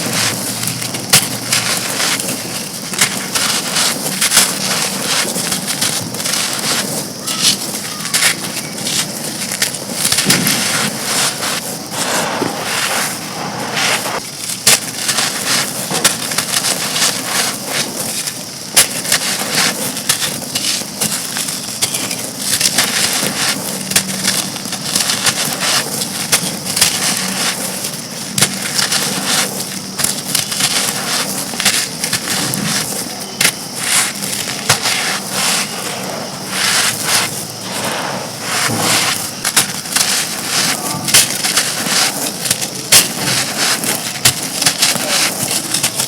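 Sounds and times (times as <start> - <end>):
brittle chunks crunching: 0.0 - 13.4, 14.1 - 46.0.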